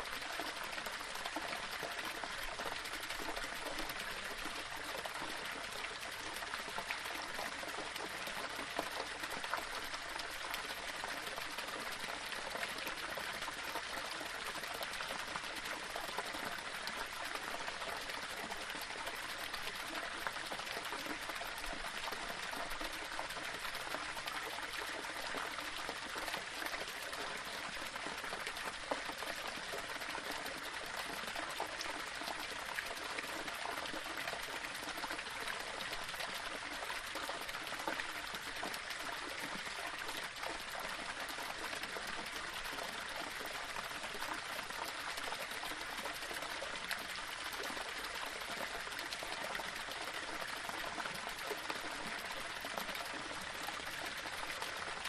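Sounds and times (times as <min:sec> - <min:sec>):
small waterfall splashing over stones: 0:00.0 - 0:55.0.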